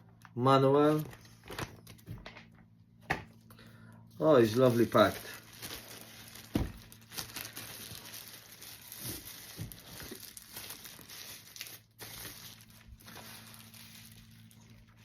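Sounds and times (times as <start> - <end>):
packaging crinkling: 0.9 - 2.4, 4.2 - 15.0.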